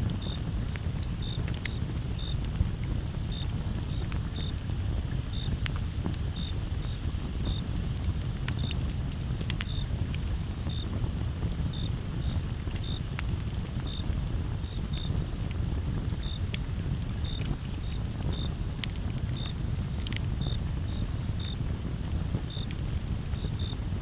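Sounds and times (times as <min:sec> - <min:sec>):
campfire crackling and popping: 0:00.0 - 0:24.0
crickets chirping: 0:00.0 - 0:24.0
high insect hum: 0:00.0 - 0:24.0.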